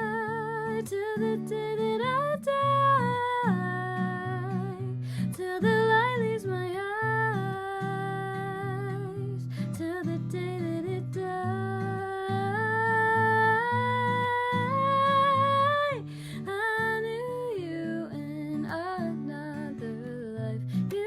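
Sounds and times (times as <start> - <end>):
fingerpicked acoustic guitar: 0.0 - 21.0.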